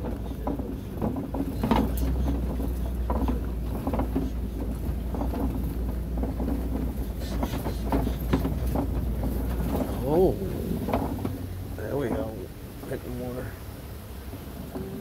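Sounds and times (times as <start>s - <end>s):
truck engine and road rumble: 0.0s - 15.0s
vehicle rattling and knocking: 0.0s - 15.0s.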